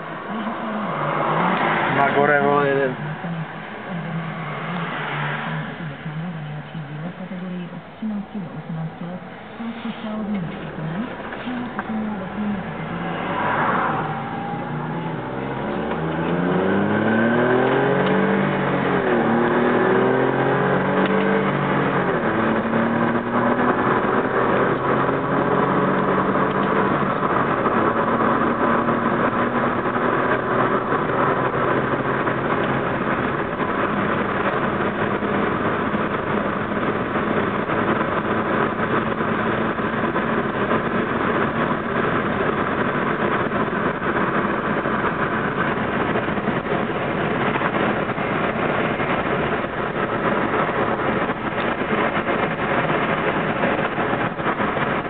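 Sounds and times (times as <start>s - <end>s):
car engine accelerating: 0.0s - 55.0s
road noise: 0.0s - 55.0s.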